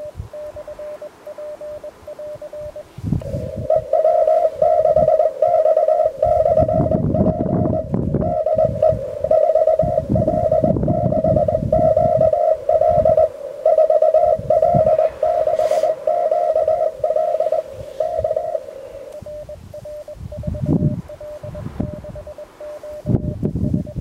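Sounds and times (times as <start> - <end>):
morse code beeping: 0.0 - 24.0.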